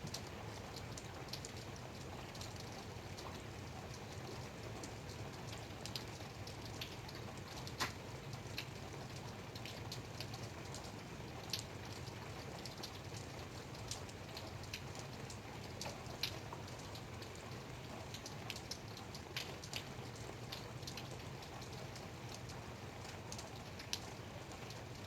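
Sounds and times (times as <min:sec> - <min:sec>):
light rain on hard surface: 0:00.0 - 0:25.0.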